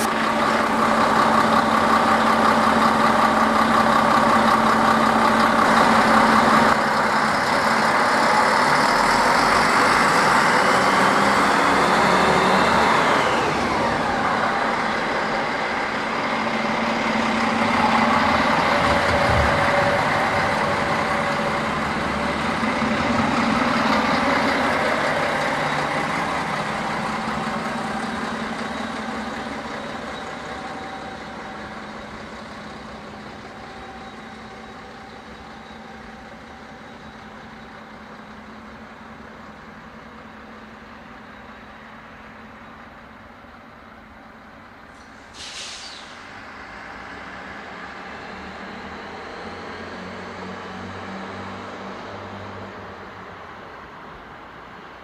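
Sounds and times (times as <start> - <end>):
diesel railcar engines running: 0.0 - 55.0.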